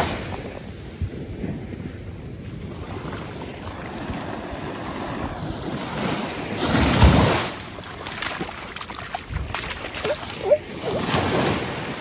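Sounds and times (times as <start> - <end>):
small waves washing on shore: 0.0 - 12.0
wind on microphone: 0.0 - 12.0.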